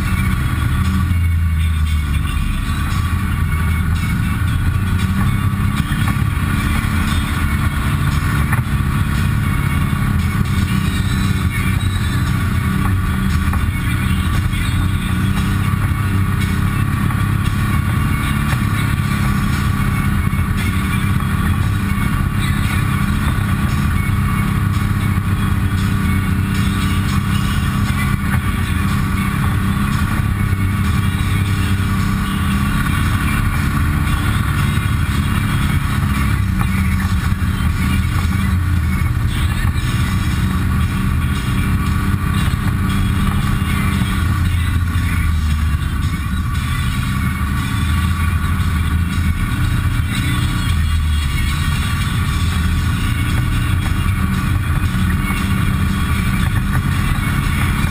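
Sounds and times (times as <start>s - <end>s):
utility vehicle engine running: 0.0s - 57.9s.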